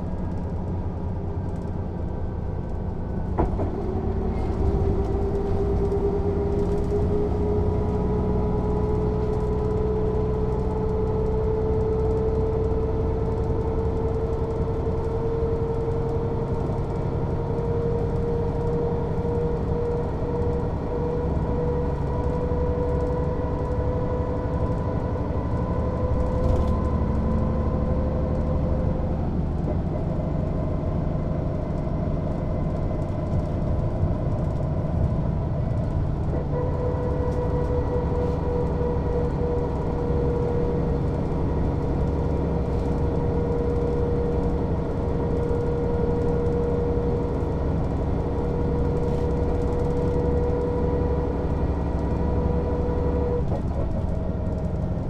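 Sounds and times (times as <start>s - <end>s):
bus diesel engine: 0.0s - 55.0s
road rumble: 0.0s - 55.0s.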